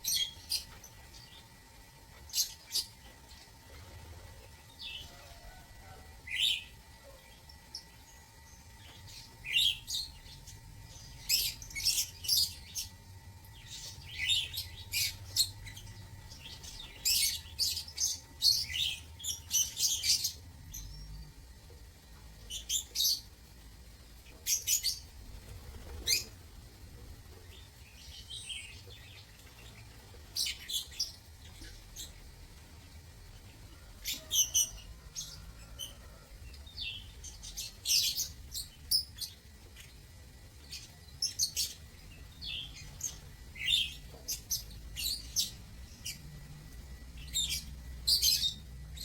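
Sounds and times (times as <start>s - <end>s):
lovebirds chirping: 0.0s - 49.0s.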